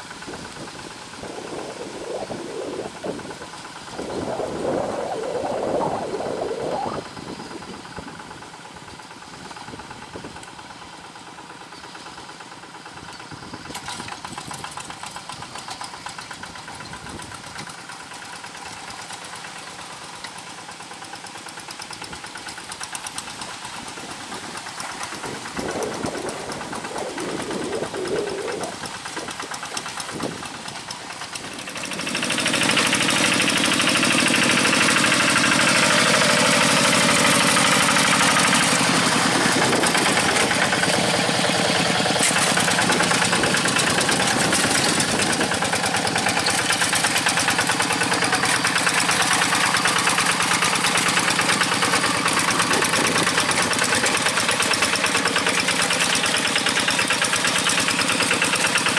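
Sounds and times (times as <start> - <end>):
diesel engine chugging: 0.0 - 58.9.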